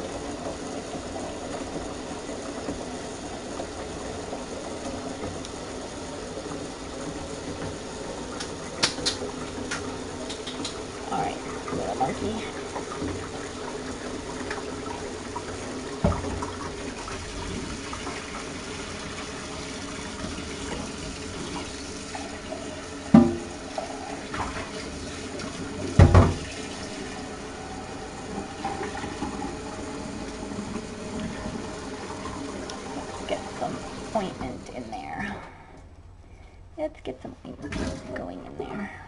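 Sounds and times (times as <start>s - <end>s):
water running into a sink: 0.0s - 35.9s, 37.5s - 38.7s.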